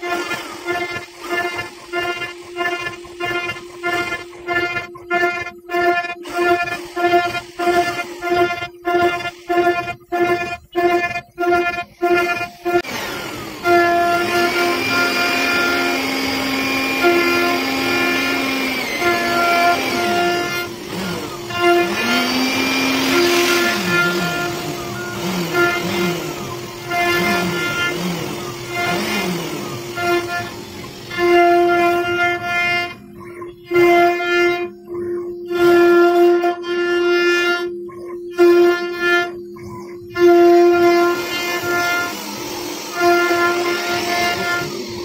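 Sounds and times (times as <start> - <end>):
router cutting hiss: 0.0 - 37.3, 40.0 - 45.0
machine tone glides: 0.0 - 45.0
router spindle high whine: 0.0 - 45.0.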